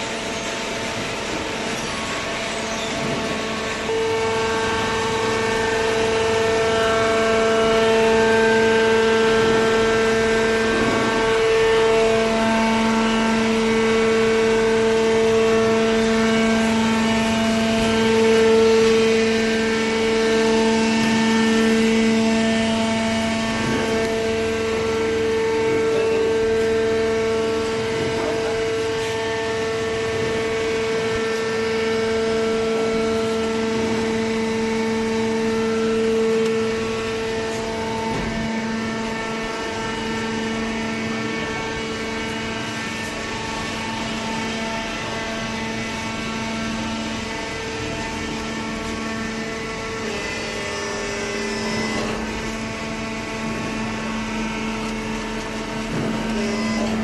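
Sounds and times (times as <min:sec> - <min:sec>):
hydraulic baler motor humming: 0:00.0 - 0:57.0.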